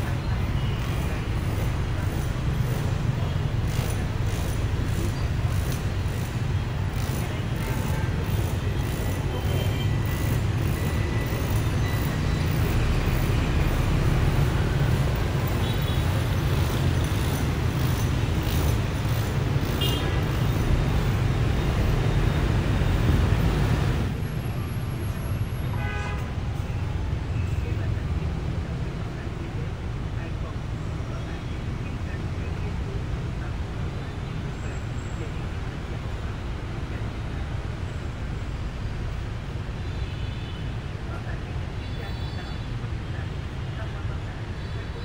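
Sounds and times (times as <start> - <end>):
bus engine rumble: 0.0 - 39.9
road traffic: 0.0 - 45.0.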